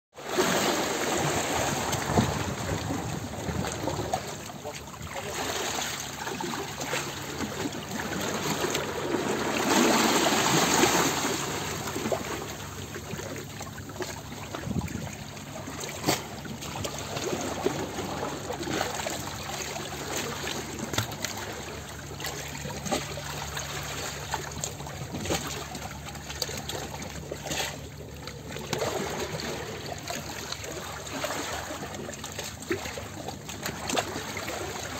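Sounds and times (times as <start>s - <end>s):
rush of water: 0.2s - 34.9s
water splashing and trickling: 0.2s - 34.9s.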